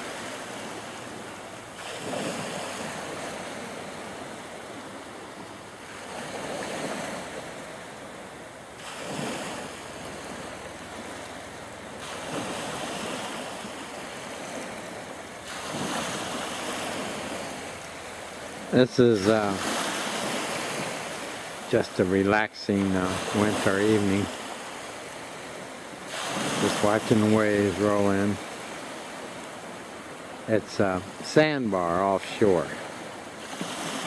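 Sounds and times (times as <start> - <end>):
hiss of surf: 0.0 - 34.0
small waves breaking on shore: 0.0 - 34.0.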